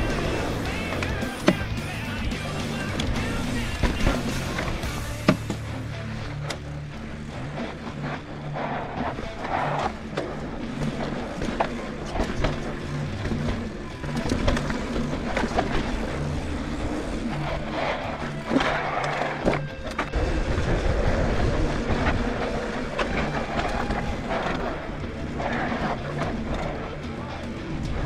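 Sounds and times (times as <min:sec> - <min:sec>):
bike clicks and rattles: 0:00.0 - 0:20.2, 0:20.8 - 0:28.0
background music: 0:00.0 - 0:28.0
tyres rolling over dirt and rocks: 0:00.0 - 0:28.0.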